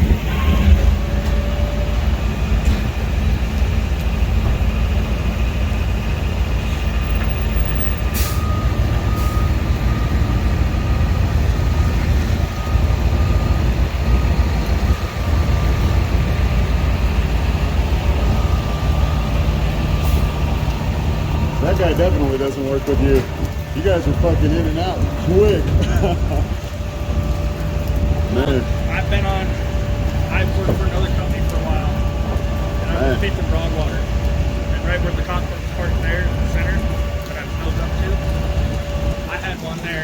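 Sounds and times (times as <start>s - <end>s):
heavy truck engine running: 0.0s - 40.0s.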